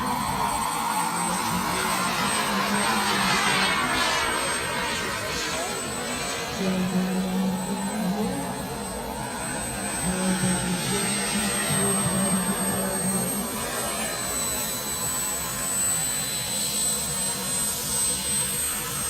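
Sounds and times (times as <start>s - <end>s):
model jet turbine whining: 0.0s - 19.0s.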